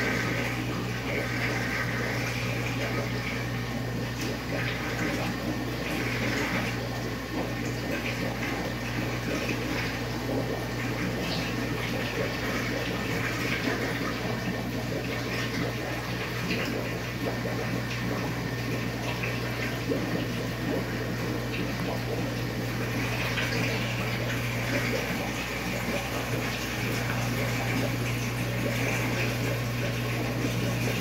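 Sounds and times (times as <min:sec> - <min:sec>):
pump electrical hum: 0:00.0 - 0:31.0.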